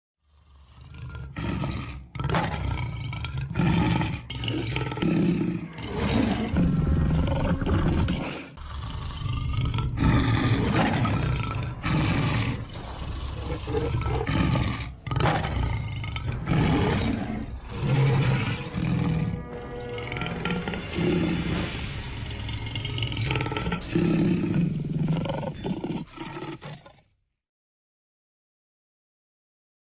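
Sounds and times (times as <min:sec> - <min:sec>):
lion roaring and growling: 0:00.2 - 0:27.1.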